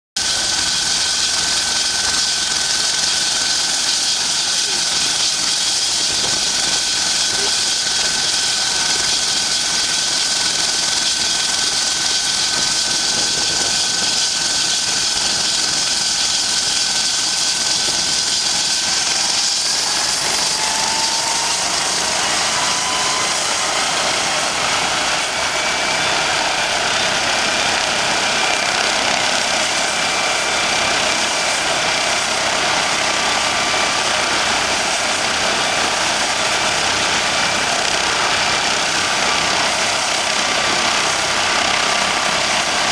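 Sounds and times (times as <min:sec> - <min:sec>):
helicopter rotor and turbine: 0:00.2 - 0:42.9
turbine whine rising in pitch: 0:00.2 - 0:42.9.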